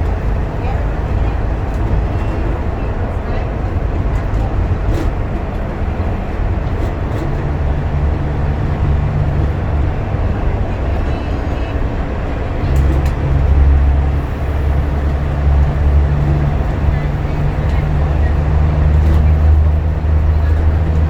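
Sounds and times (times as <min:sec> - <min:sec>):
bus engine drone: 0:00.0 - 0:21.0
road noise: 0:00.0 - 0:21.0.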